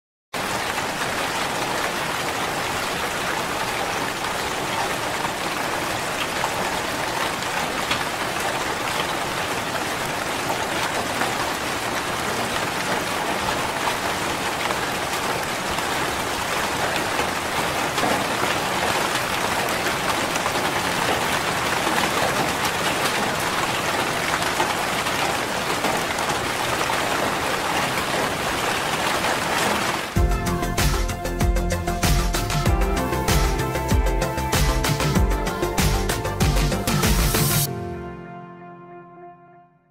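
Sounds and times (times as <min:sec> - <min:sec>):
steady rain hiss: 0:00.4 - 0:37.7.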